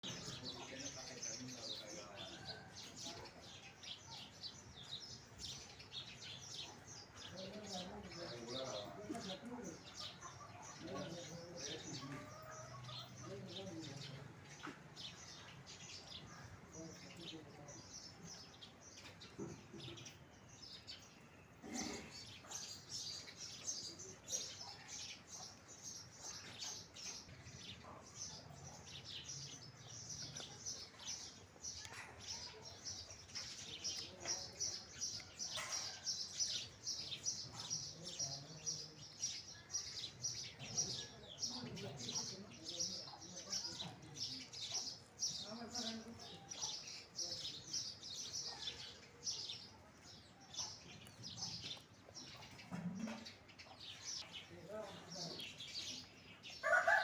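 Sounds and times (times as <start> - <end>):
sparrows chirping: 0.0 - 57.0.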